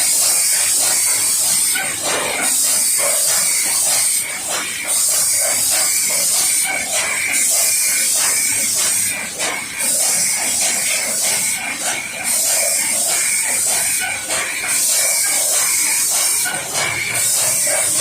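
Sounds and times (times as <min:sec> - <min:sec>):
loud high machine hiss: 0:00.0 - 0:18.0.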